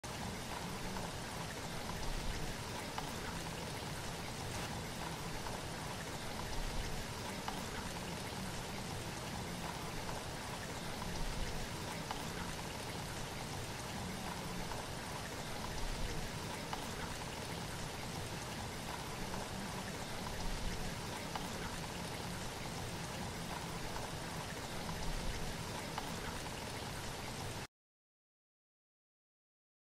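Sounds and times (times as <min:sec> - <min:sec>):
rushing water: 0:00.0 - 0:27.7.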